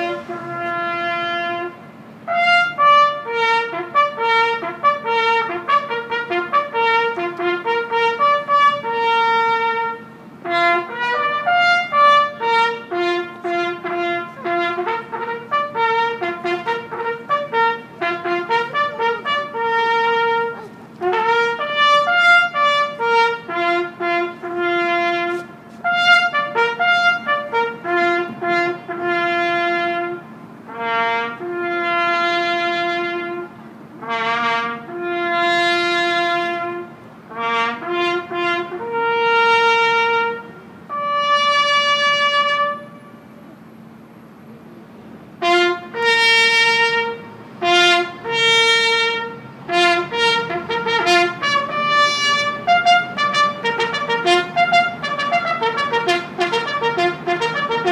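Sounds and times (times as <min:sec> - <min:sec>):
solo trumpet call: 0:00.0 - 0:43.5, 0:45.4 - 0:57.9.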